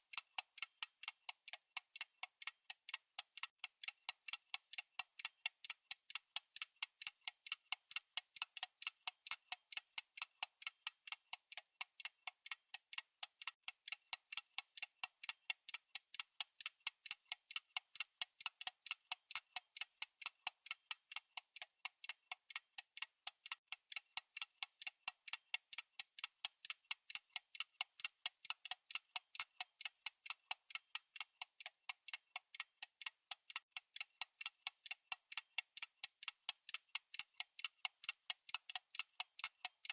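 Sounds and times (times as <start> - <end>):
timer ticking: 0.0 - 39.9.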